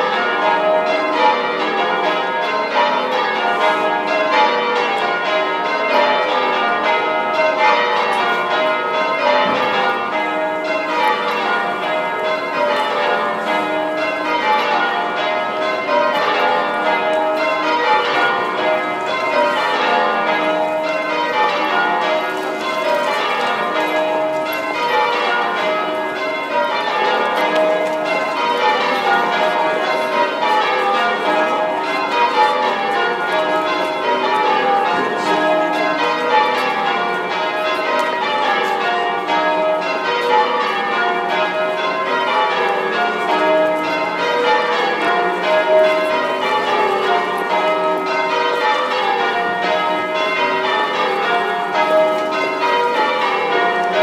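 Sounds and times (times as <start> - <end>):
church bells change ringing: 0.0 - 54.0.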